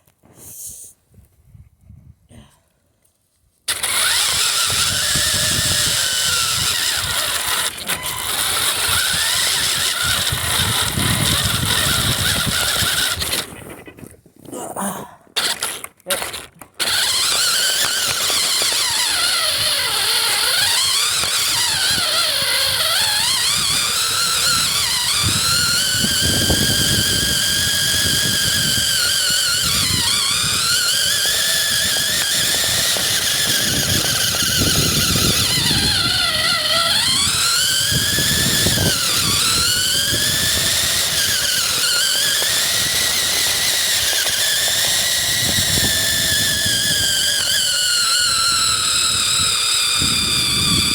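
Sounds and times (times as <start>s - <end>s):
toy car motor whining: 3.7s - 14.2s, 15.3s - 50.9s.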